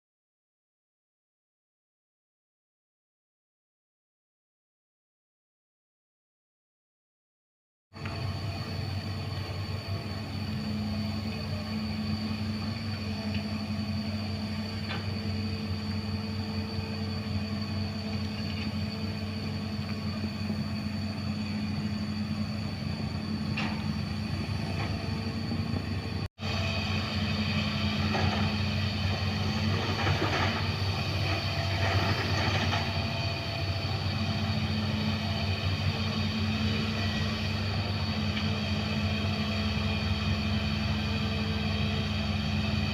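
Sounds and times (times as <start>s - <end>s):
excavator diesel engine running: 8.0s - 42.9s
thin high whine: 8.0s - 42.9s.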